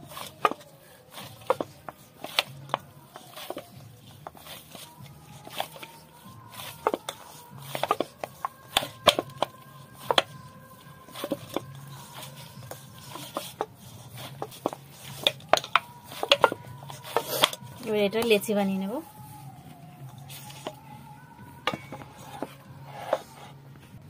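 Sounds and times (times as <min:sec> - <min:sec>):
hands kneading dough: 0:00.0 - 0:24.0
low steady hum: 0:00.0 - 0:24.0.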